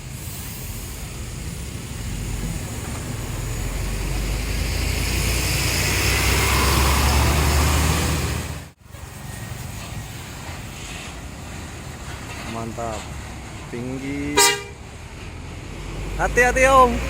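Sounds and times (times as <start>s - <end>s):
bus engine passing: 0.0s - 17.0s.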